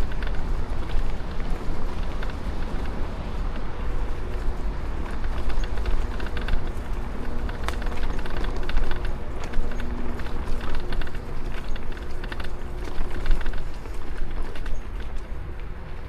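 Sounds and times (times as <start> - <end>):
rapid clicks and rattles: 0.0 - 16.0
wind rumbling over microphone: 0.0 - 16.0.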